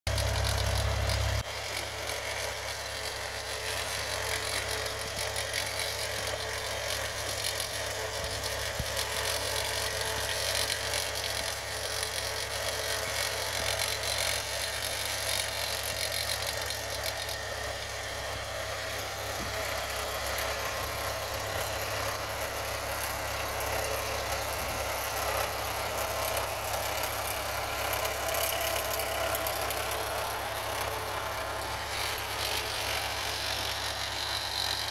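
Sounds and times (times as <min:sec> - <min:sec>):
reel mowers spinning: 0:00.1 - 0:34.9
tractor engine running: 0:00.1 - 0:34.9.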